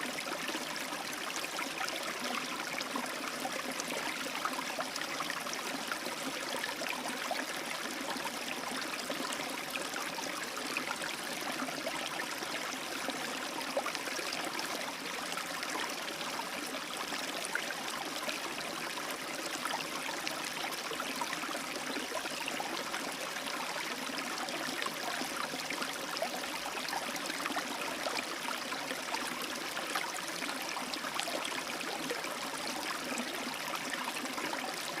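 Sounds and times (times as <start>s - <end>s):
stream babbling over rocks: 0.0s - 35.0s.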